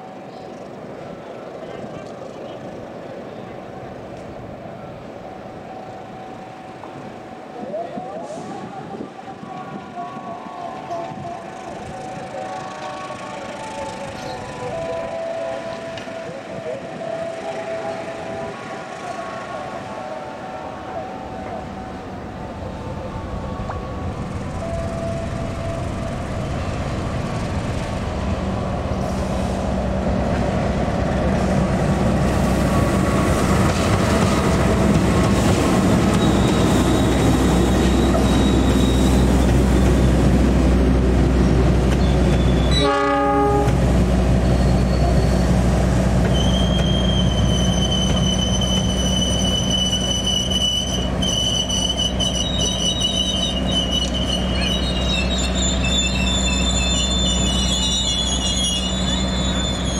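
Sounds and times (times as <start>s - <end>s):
train rumbling on track: 0.0s - 59.9s
wheels squealing on rails: 5.4s - 30.0s, 32.3s - 40.6s, 41.4s - 59.9s.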